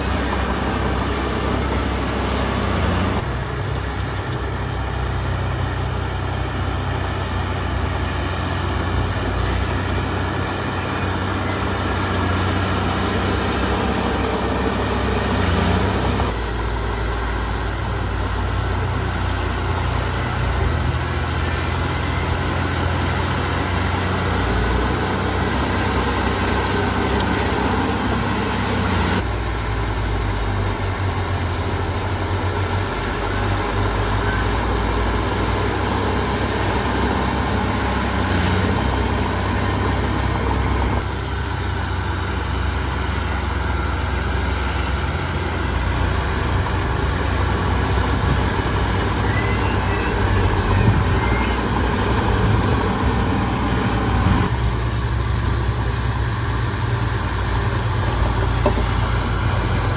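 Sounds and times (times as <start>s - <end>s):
heavy diesel machinery engine drone: 0.0s - 59.9s.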